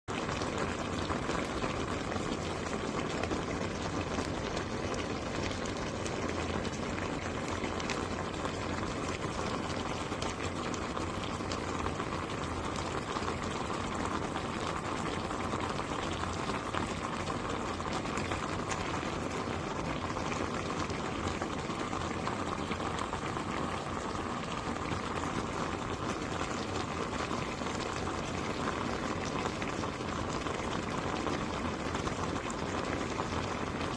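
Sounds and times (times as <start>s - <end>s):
stew bubbling in a pot: 0.0s - 33.9s.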